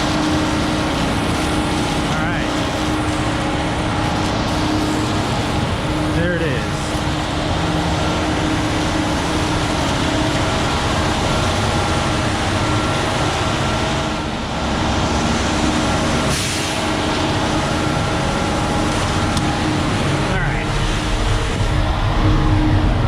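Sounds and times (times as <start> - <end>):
concrete mixer truck running: 0.0 - 23.0.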